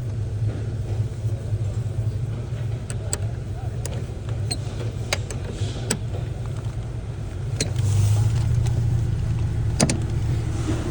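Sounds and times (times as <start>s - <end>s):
car engine rumbling: 0.0s - 10.9s.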